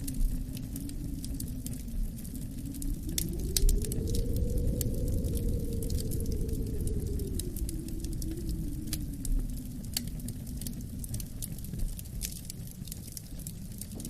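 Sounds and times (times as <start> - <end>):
low wind rumble: 0.0 - 14.0
wood fire crackling and popping: 0.0 - 14.0.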